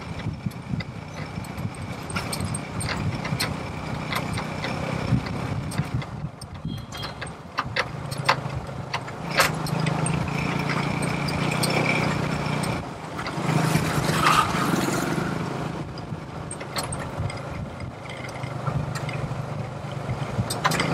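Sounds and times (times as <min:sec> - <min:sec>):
clicks and rattles: 0:00.0 - 0:15.1, 0:15.8 - 0:20.9
vehicle engine running: 0:00.0 - 0:20.9.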